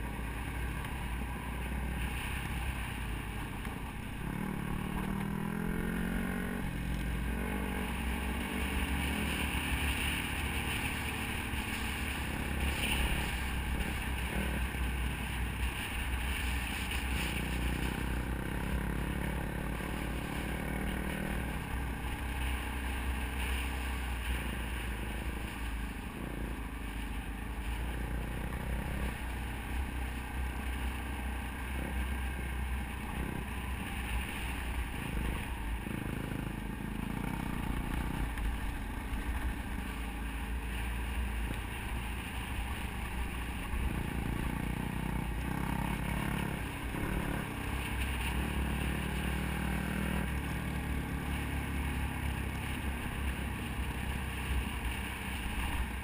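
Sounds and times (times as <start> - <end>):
dirt bike engine revving: 1.5 - 26.7, 27.7 - 40.0, 42.6 - 54.9.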